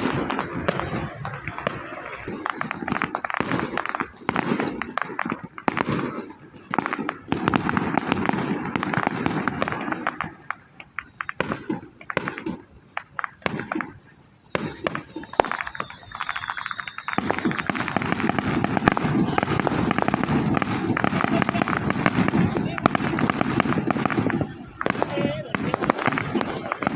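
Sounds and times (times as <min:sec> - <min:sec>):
firecrackers popping: 0:00.0 - 0:26.9.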